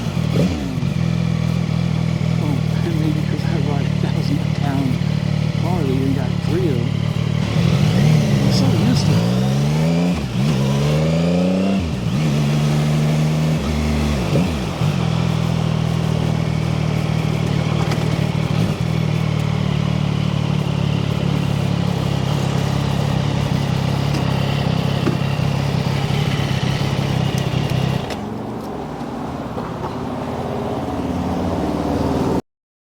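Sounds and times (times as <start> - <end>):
motorcycle engine revving: 0.0 - 32.4.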